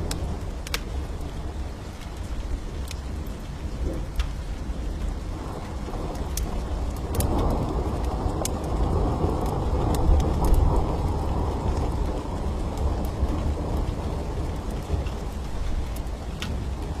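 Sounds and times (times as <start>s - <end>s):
rolling thunder: 0.0s - 17.0s
steady rain: 0.0s - 17.0s
wood fire crackles: 0.0s - 17.0s.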